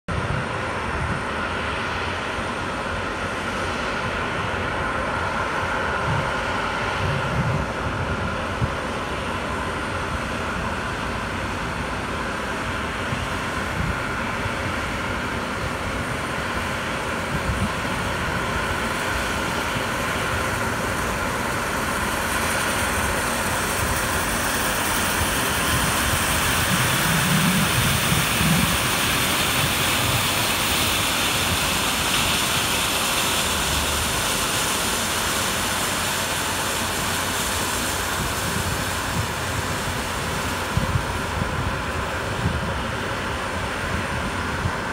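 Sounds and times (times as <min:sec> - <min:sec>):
jet engine whine: 0:00.0 - 0:44.9.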